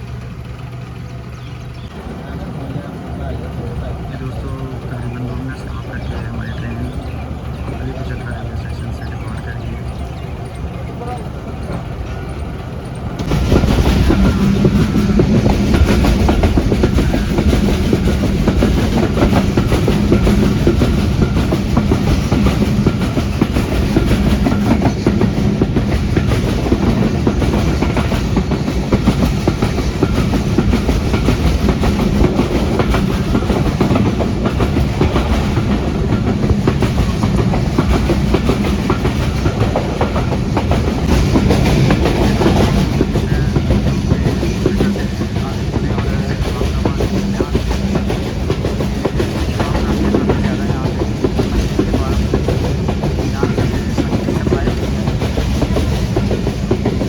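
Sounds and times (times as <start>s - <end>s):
train rumbling on rails: 0.0s - 57.0s
wheels clattering over rail joints: 9.2s - 57.0s.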